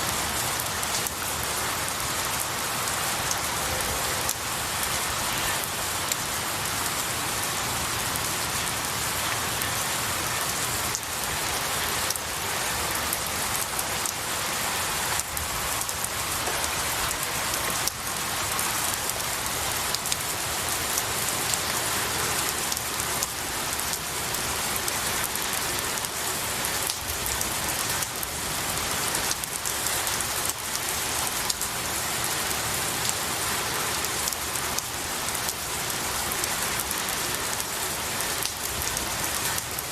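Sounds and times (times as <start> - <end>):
rain on pine needles: 0.0 - 39.9.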